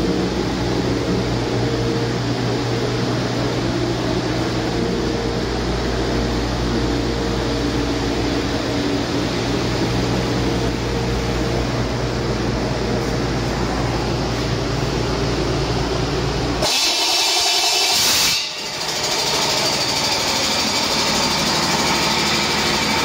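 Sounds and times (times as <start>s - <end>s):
diesel engine running steadily: 0.0s - 23.0s.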